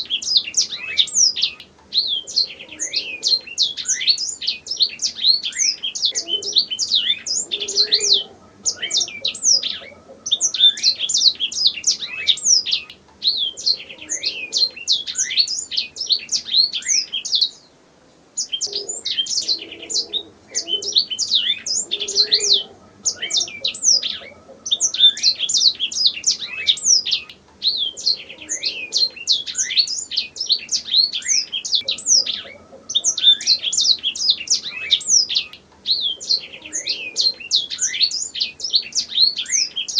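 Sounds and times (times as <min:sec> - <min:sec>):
canary singing: 0:00.0 - 0:17.7, 0:18.4 - 0:39.9.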